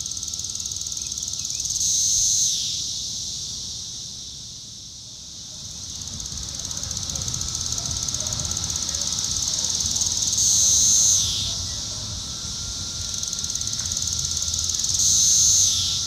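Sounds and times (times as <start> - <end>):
cicada buzzing: 0.0 - 16.0.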